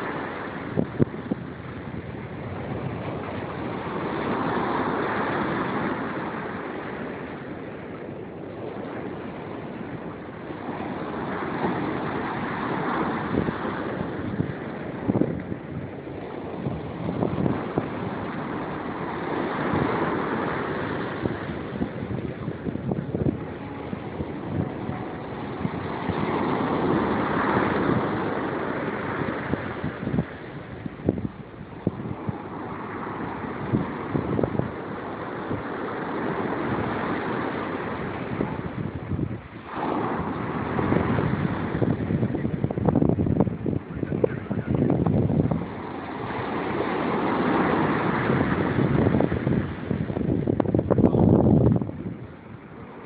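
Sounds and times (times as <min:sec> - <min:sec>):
ocean surf breaking: 0:00.0 - 0:53.0
wind buffeting microphone: 0:00.0 - 0:53.0.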